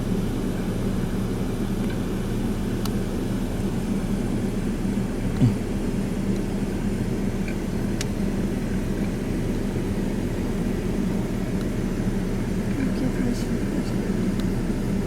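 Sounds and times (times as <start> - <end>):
low engine-like drone: 0.0 - 15.0.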